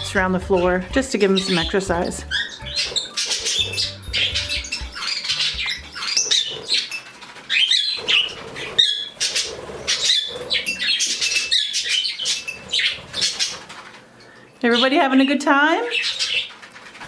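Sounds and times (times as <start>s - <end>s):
pet birds chirping and chattering: 0.0s - 17.0s.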